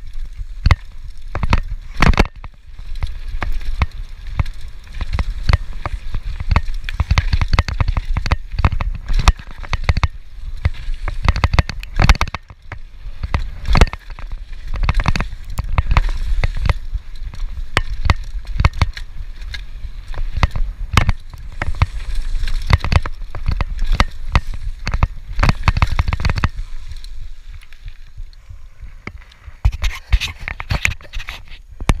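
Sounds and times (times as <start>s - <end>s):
tyres on dirt: 0.0s - 32.0s
bike chain and frame knocking: 0.2s - 27.0s.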